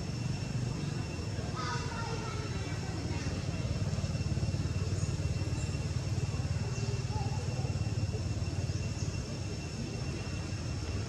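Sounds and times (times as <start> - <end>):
thin steady high tones: 0.0 - 11.0.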